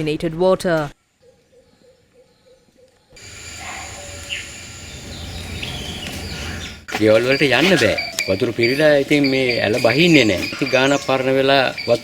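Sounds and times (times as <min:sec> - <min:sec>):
bird chirps: 0:01.2 - 0:12.0.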